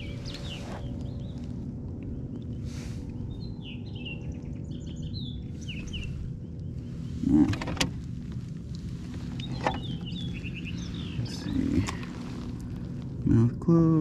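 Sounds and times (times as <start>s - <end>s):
birds chirping: 0.0s - 13.5s
low background rumble: 0.0s - 14.0s.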